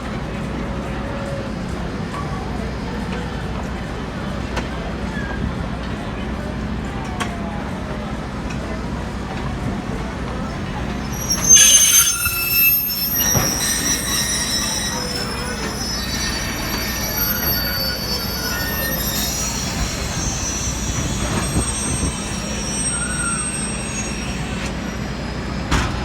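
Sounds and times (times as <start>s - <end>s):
train low rumble: 0.0s - 26.0s
train wheels squealing on rails: 0.0s - 26.0s.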